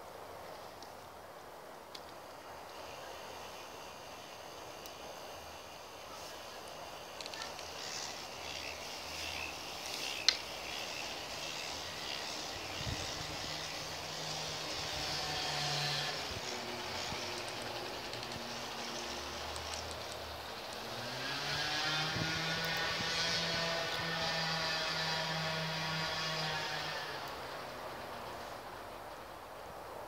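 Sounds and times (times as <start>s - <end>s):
model motor whirring rattle: 2.6s - 28.9s.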